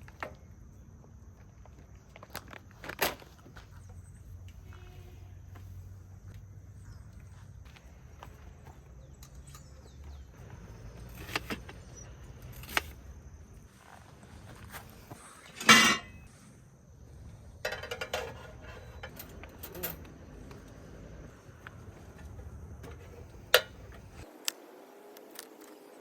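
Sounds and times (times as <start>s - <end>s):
faint high insect drone: 0.0s - 26.0s.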